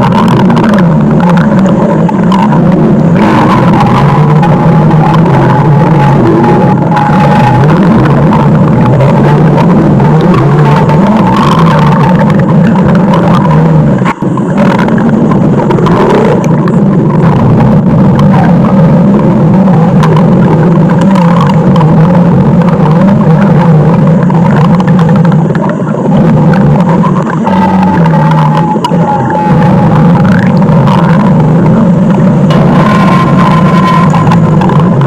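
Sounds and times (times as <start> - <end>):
stomach growling: 0.0 - 35.0.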